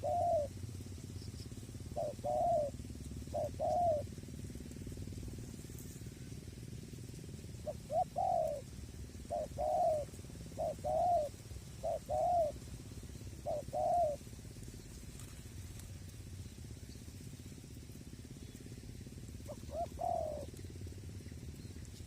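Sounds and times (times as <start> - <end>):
dove cooing: 0.0 - 17.8, 18.5 - 22.0.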